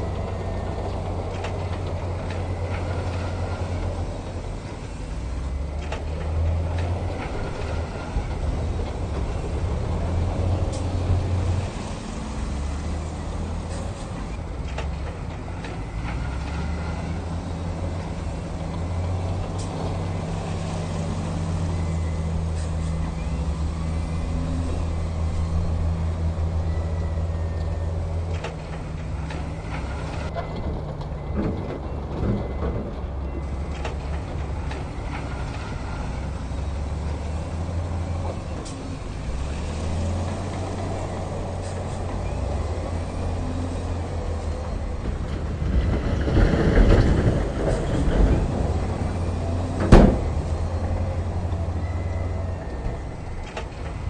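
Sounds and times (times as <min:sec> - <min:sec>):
diesel truck engines droning: 0:00.0 - 0:54.0.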